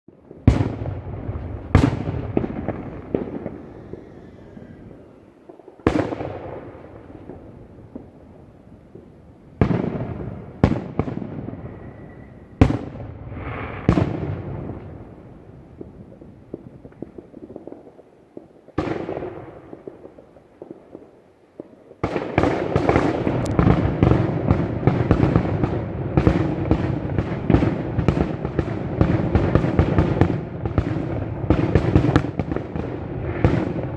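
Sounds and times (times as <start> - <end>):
rapid fireworks bangs: 0.1 - 33.9.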